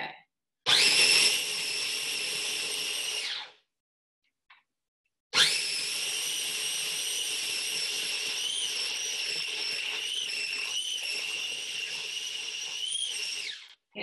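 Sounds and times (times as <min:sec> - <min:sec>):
blender motor whining: 0:00.7 - 0:03.6, 0:05.4 - 0:13.9.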